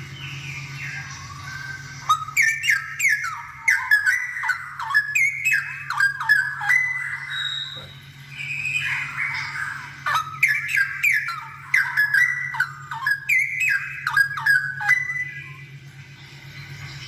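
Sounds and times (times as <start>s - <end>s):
bird singing whistled notes: 0.0s - 15.8s.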